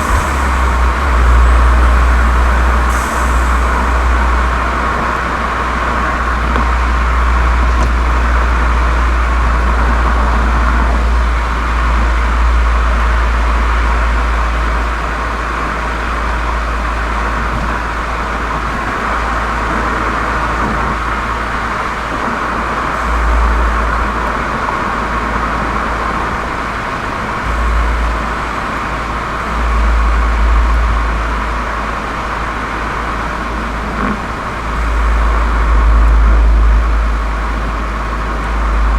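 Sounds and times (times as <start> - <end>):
car engine exhaust drone: 0.0 - 38.9.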